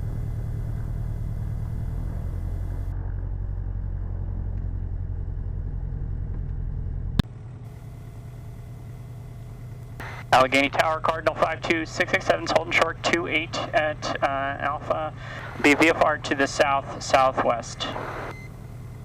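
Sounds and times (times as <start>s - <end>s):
aircraft engine droning: 0.0s - 19.0s.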